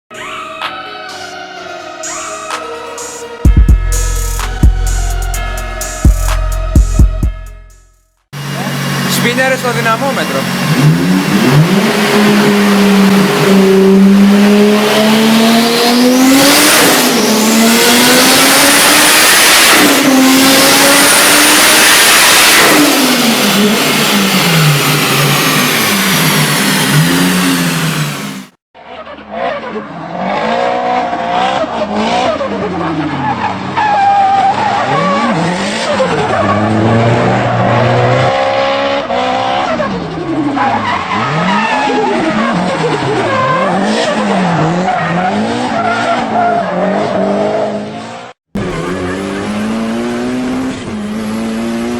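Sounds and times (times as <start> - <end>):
car engine revving: 8.4 - 51.9.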